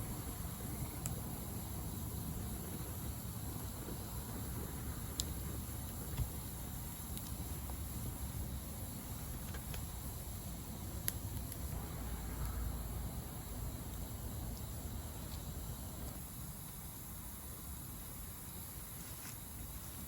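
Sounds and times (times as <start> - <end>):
low steady rumble: 0.0 - 18.4
campfire crackling and popping: 0.0 - 20.0.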